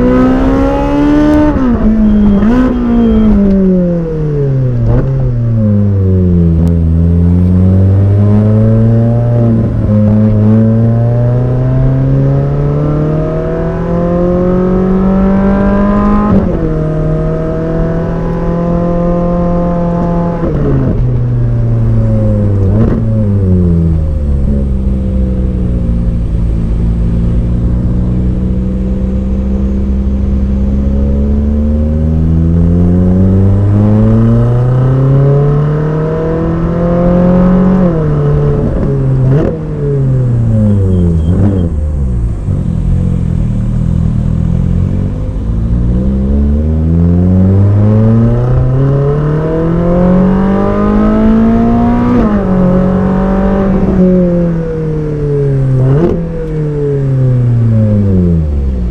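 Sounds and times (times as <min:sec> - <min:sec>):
sports car engine revving: 0:00.0 - 0:58.9.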